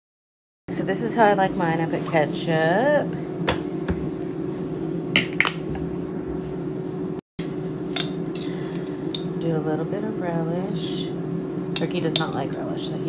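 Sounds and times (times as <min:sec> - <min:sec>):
steady background hum: 0:00.7 - 0:13.0.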